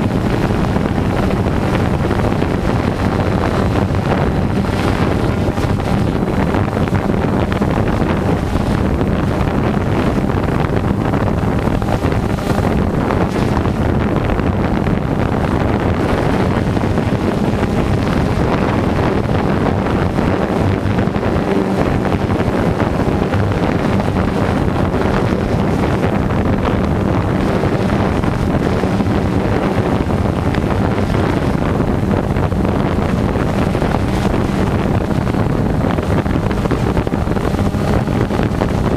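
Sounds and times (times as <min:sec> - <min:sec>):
drone motors and propellers: 0:00.0 - 0:38.9
wind buffeting microphone: 0:00.0 - 0:38.9.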